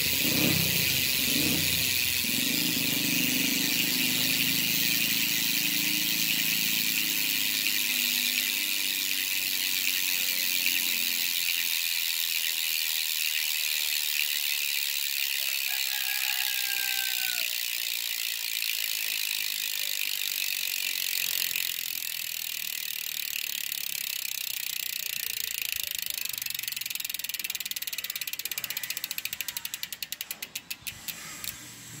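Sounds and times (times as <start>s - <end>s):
bicycle freehub clicking: 0.0s - 32.0s.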